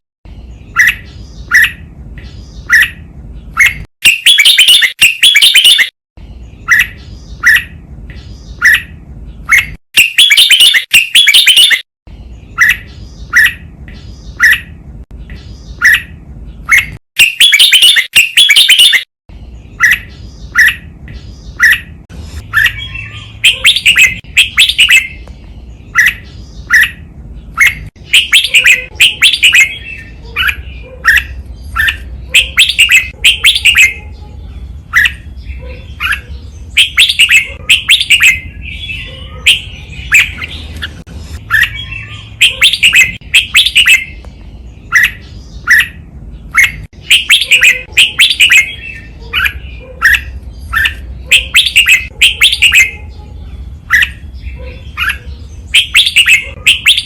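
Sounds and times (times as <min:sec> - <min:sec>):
bulbul singing: 0:00.3 - 0:57.0.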